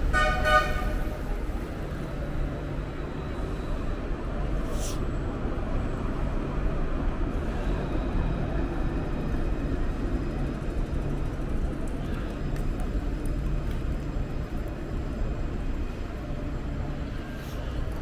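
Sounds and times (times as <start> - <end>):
city traffic noise: 0.0 - 18.0
tram electric whine: 0.0 - 18.0
tram rumbling past: 0.0 - 18.0.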